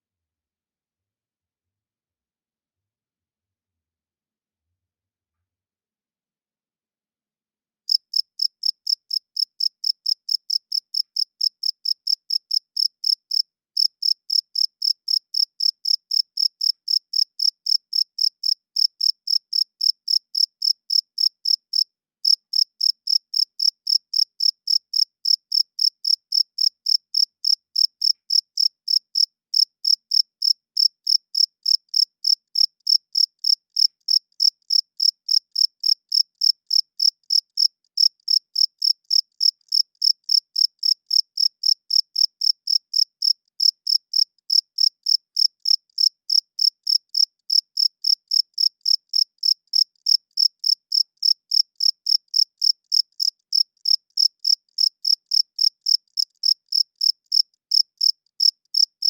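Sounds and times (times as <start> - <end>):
cricket chirping: 7.9 - 59.0.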